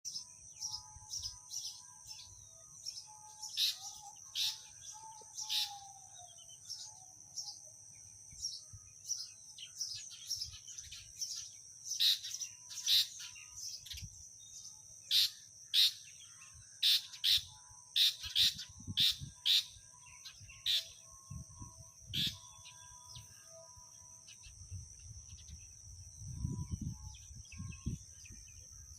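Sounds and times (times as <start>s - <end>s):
sparrows chirping: 0.1s - 28.9s
steady high-pitched hum: 0.2s - 28.9s.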